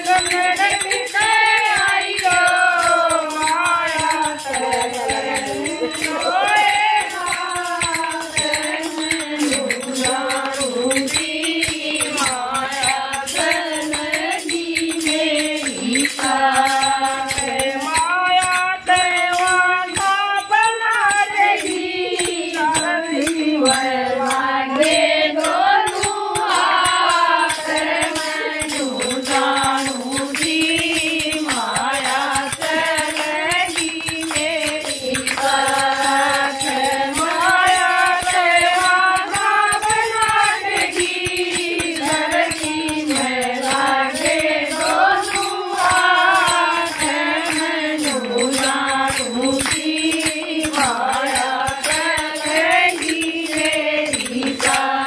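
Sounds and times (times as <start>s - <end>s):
women singing devotional song: 0.0s - 55.0s
wooden clappers with jingles: 0.0s - 55.0s.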